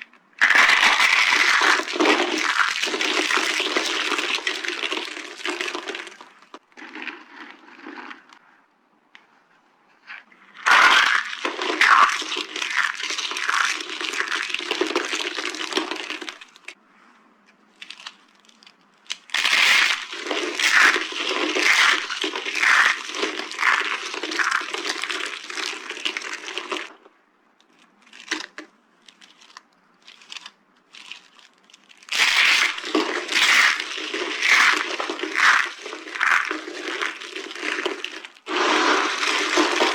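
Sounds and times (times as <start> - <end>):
soap crunching and cracking: 0.0 - 8.4, 10.4 - 16.8, 17.8 - 39.9.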